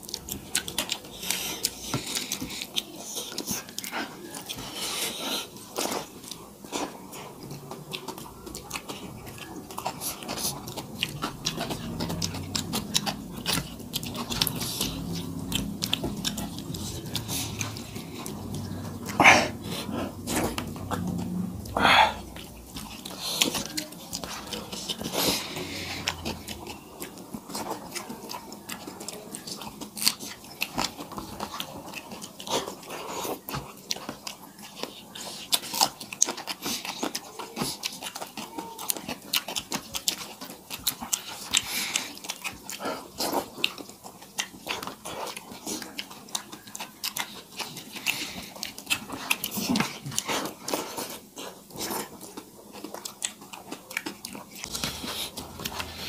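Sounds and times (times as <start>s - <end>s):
wet chewing and lip-smacking: 0.0s - 56.0s.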